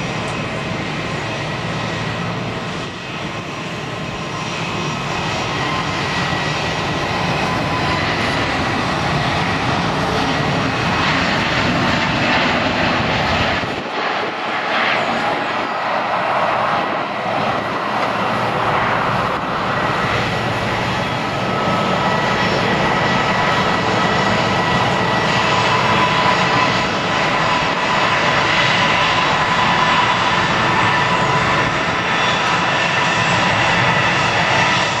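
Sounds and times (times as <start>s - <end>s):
jet engine roar: 0.0s - 35.0s
jet engine whining tones: 0.0s - 35.0s.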